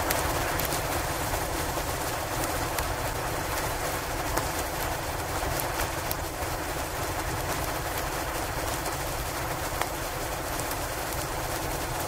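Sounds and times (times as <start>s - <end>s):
log fire crackling: 0.0s - 12.0s
windy hiss: 0.0s - 12.0s.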